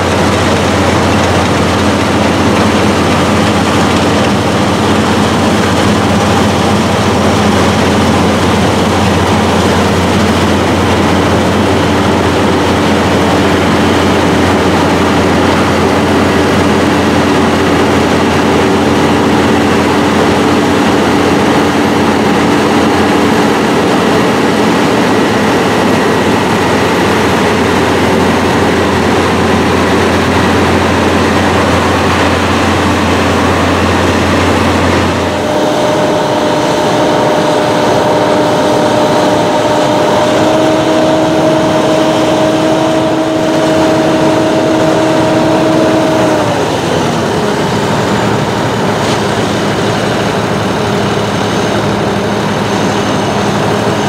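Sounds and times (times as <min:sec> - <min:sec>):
combine harvester engine and threshing: 0:00.0 - 0:54.0
machine whine: 0:00.0 - 0:54.0.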